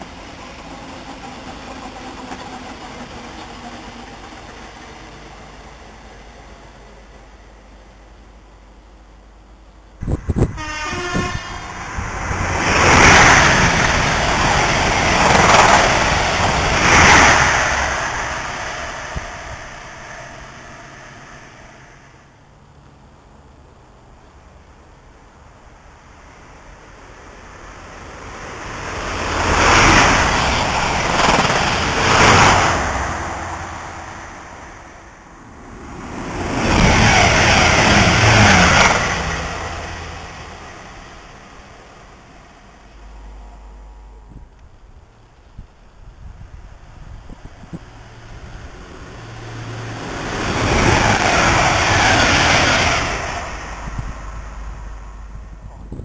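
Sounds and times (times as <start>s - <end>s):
train passing at high speed: 0.0s - 56.0s.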